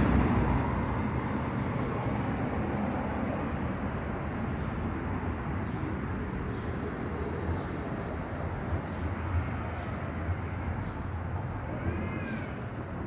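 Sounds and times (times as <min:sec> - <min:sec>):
low street ambience rumble: 0:00.0 - 0:13.0.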